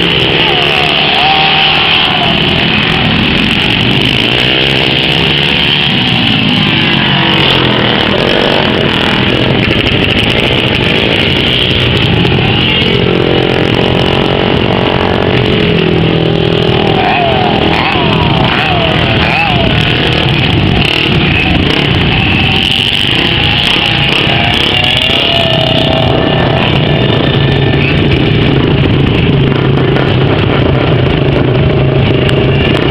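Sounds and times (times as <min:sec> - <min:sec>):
racing engines revving: 0:00.0 - 0:32.9.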